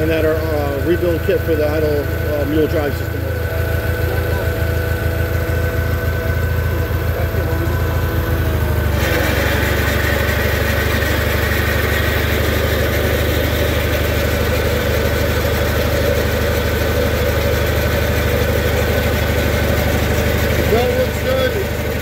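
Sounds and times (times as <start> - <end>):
auger bearings noise: 0.0 - 22.0
garden tractor engine running: 0.0 - 22.0
snowblower drive whirring: 0.0 - 22.0.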